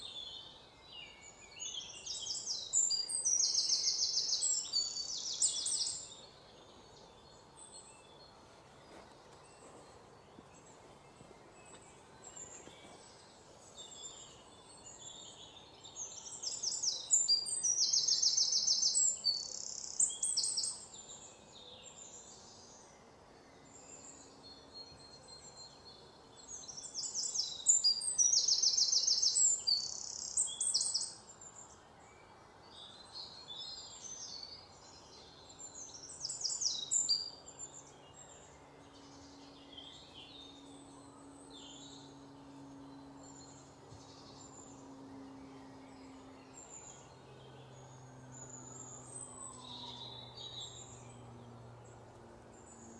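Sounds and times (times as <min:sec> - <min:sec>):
songbird chirping trills: 0:00.0 - 0:52.9.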